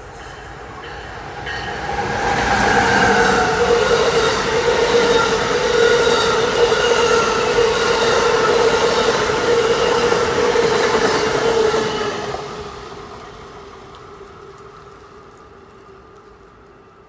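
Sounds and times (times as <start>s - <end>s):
train cars rolling on rails: 0.0s - 17.0s.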